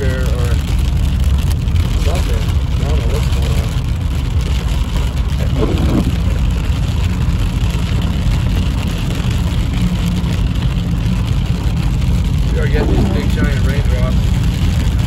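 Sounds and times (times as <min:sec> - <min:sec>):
car road and engine noise: 0:00.0 - 0:15.0
rain on car: 0:00.0 - 0:15.0.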